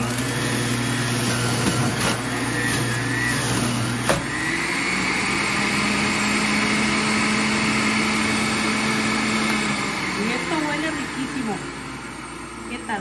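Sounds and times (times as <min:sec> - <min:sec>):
juice extractor motor running: 0:00.0 - 0:13.0.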